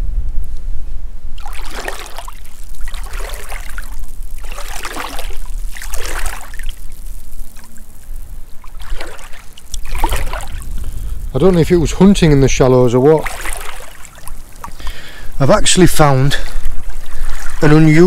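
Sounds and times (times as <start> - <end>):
feet sloshing through shallow water: 1.4 - 18.0.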